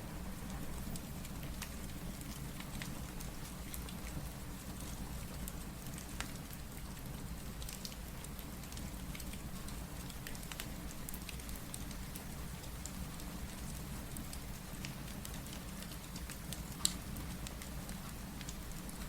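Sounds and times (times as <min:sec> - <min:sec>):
fireplace crackling: 0:00.0 - 0:19.0
steady rain: 0:00.0 - 0:19.0.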